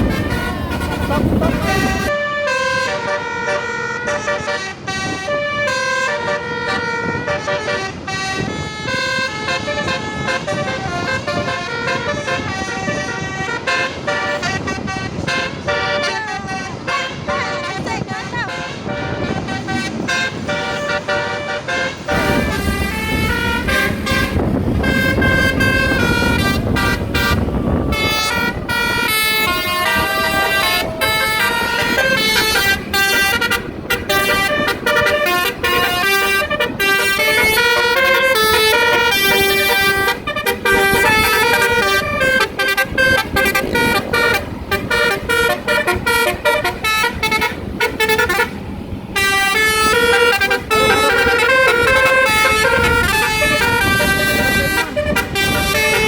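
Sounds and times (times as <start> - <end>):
bus engine rumbling: 0.0 - 56.0
multi-trumpet bus horns playing: 0.0 - 56.0.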